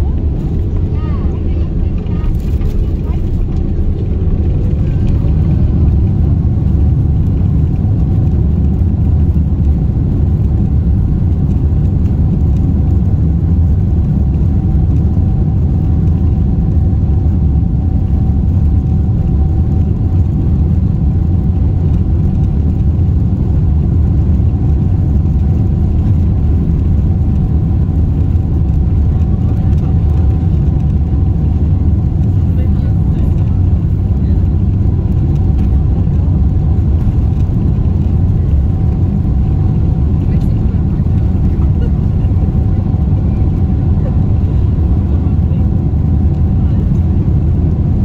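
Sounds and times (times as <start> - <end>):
jet engine rumble: 0.0 - 48.0.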